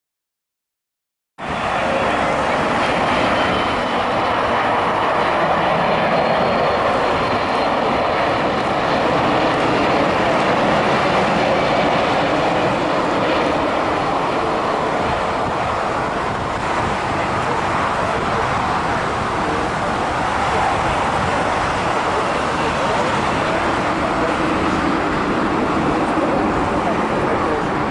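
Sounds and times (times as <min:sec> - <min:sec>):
jet engines rushing: 0:01.4 - 0:27.9.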